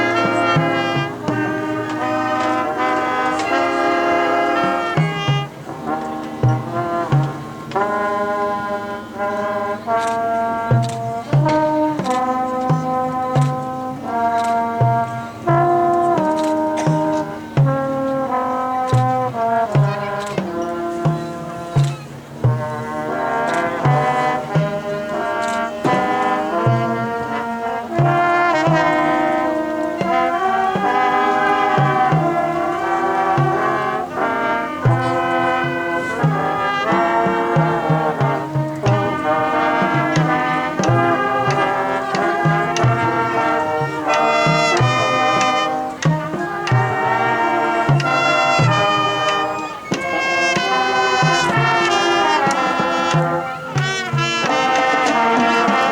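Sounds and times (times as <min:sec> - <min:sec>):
drums steady beat: 0:00.0 - 0:08.3, 0:09.5 - 0:55.9
brass section playing chords: 0:00.0 - 0:55.9.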